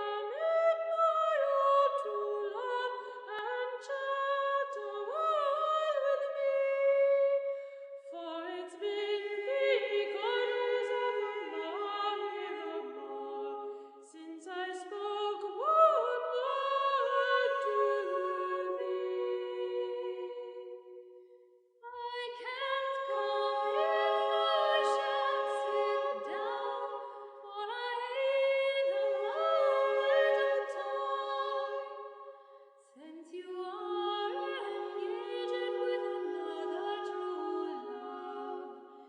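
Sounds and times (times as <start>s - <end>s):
a cappella singing in harmony: 0.0s - 39.0s.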